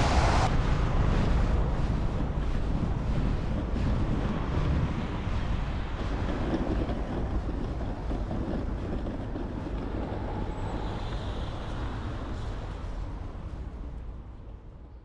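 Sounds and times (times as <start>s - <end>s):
wind on microphone: 0.0s - 13.9s
street traffic: 0.0s - 15.0s.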